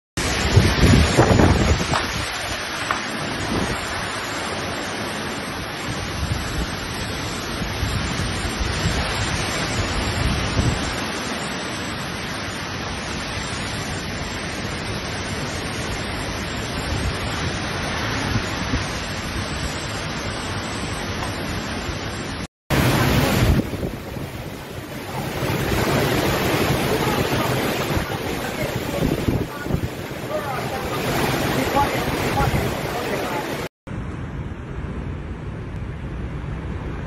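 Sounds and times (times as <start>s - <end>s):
wind and rain lashing trees: 0.2s - 37.0s
wind gusts buffeting microphone: 0.2s - 37.0s.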